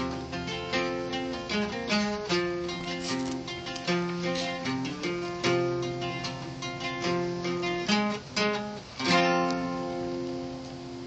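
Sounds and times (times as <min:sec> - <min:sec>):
acoustic guitars playing: 0:00.0 - 0:11.0.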